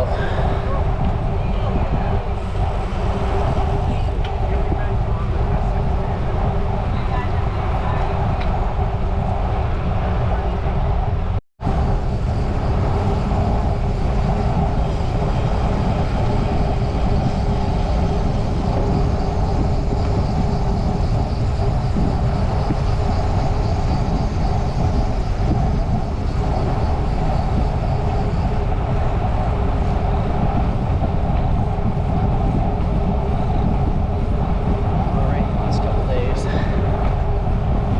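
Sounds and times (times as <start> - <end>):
bicycle road hum: 0.0 - 37.9
wind rushing on microphone: 0.0 - 37.9.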